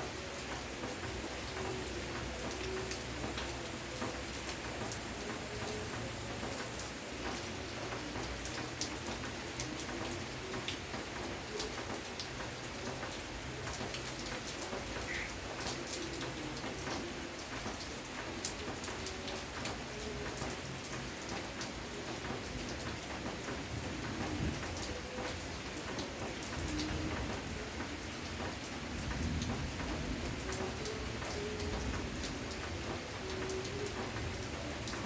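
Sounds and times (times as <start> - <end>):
raindrops ticking: 0.0 - 35.0
steady rainfall: 0.0 - 35.0.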